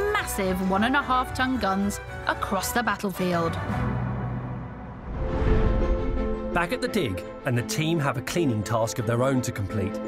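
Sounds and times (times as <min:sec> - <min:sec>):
soundtrack music with low notes: 0:00.0 - 0:10.0.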